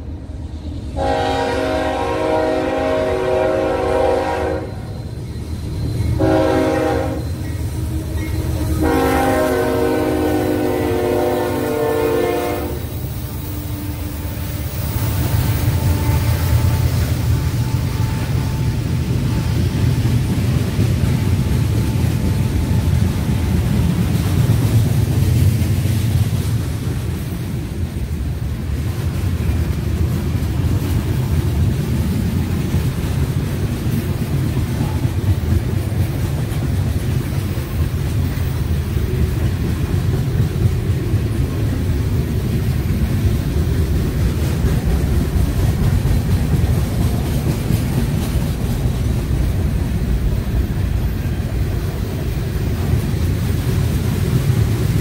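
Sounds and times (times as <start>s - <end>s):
freight train rolling past: 0.0s - 55.0s
steel wheels rumbling on rail: 0.0s - 55.0s.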